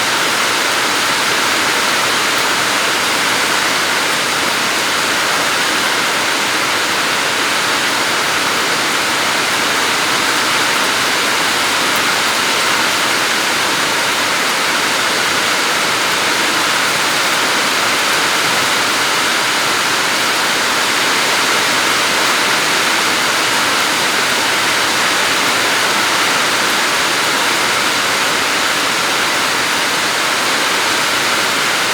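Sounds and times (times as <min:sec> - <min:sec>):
floodwater rushing: 0:00.0 - 0:31.9.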